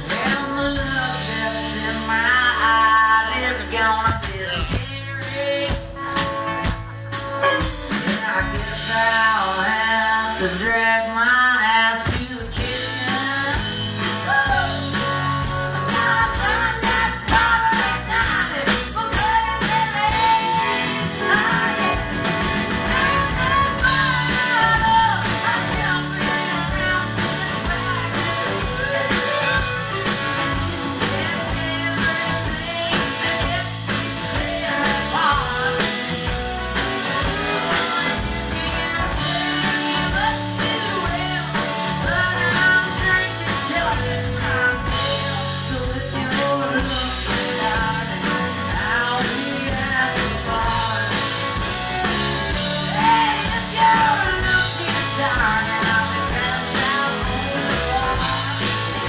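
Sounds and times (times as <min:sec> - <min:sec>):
woman singing: 0:00.0 - 0:06.8, 0:07.9 - 0:59.0
electric guitar: 0:00.0 - 0:59.0
strummed acoustic guitar: 0:11.6 - 0:59.0.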